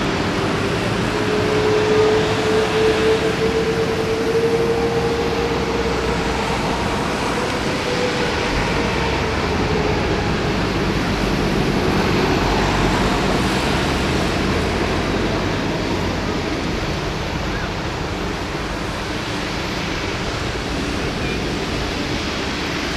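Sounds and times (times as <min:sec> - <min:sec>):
jet engine roar: 0:00.0 - 0:22.9
jet engine whine: 0:00.0 - 0:22.9.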